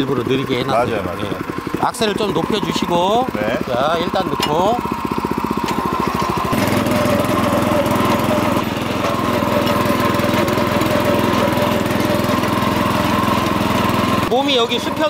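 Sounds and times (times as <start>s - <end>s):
power tiller engine running: 0.0s - 15.0s
tines churning soil: 0.0s - 15.0s.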